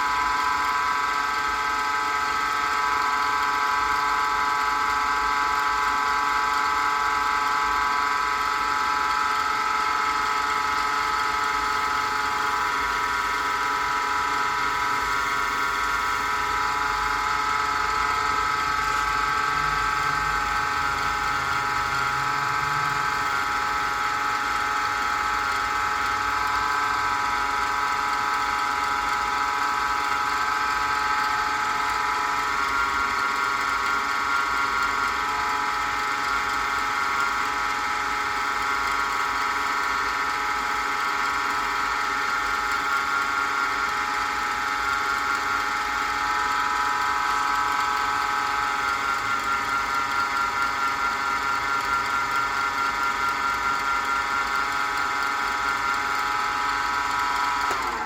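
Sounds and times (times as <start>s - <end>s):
wood lathe motor whine: 0.0s - 58.0s.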